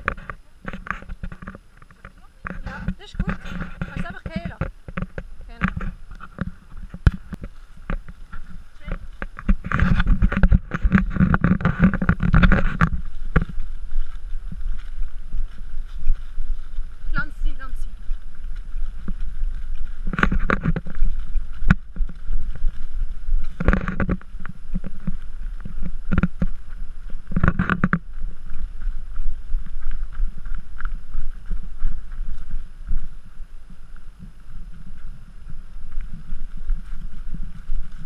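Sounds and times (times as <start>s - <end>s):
footsteps in grass: 0.0s - 38.0s
wind: 0.0s - 38.0s.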